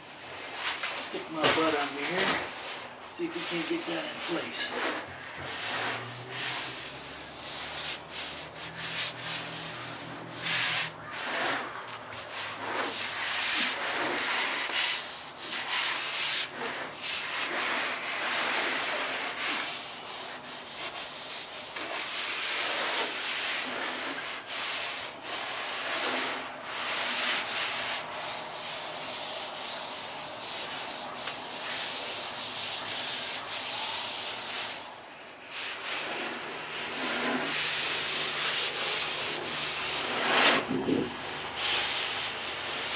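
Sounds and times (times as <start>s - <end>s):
fiberglass sheet rubbing and scraping: 0.2s - 42.9s.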